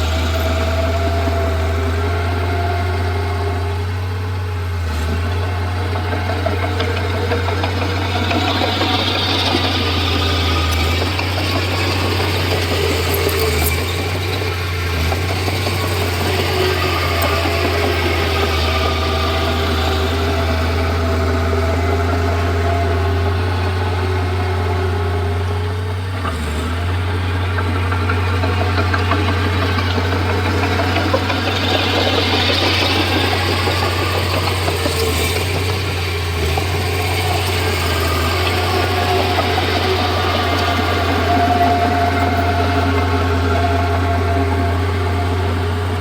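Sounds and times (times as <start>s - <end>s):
bulldozer diesel engine running: 0.0s - 46.0s.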